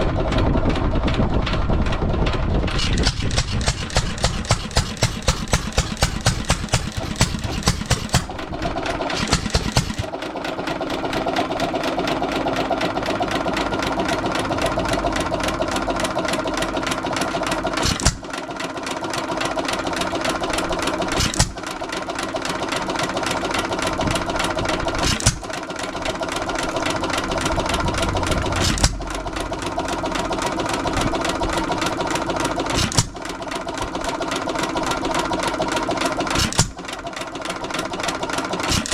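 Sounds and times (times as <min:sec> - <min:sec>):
stationary gas engine running: 0:00.0 - 0:38.9.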